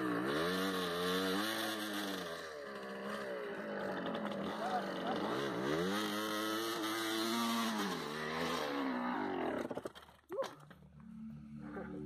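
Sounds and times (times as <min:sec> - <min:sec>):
motorcycle engine revving hard: 0:00.0 - 0:09.8
wheel spinning in loose dirt: 0:00.0 - 0:12.0.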